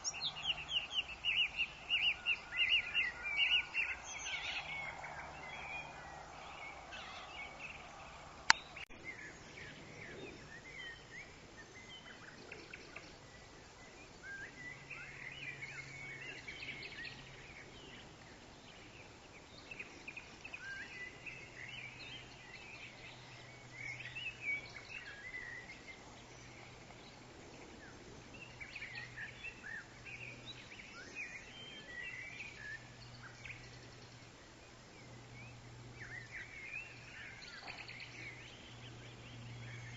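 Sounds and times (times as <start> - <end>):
birds chirping and whistling: 0.0 - 18.0, 19.5 - 34.2, 34.9 - 39.9
low steady hum: 0.0 - 39.9.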